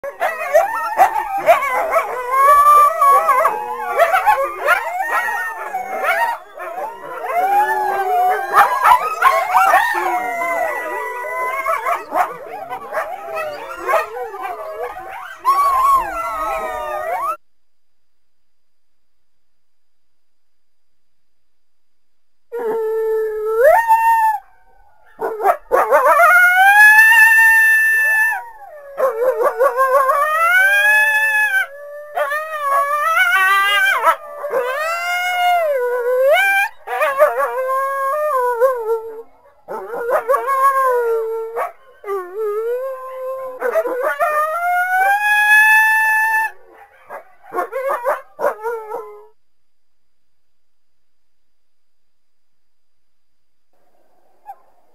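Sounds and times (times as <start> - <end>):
coyotes howling and yipping: 0.0 - 17.4, 22.6 - 49.3.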